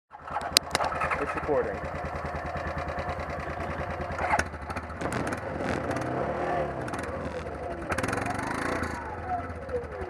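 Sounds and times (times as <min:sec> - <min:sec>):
quad engine running: 0:00.1 - 0:10.0.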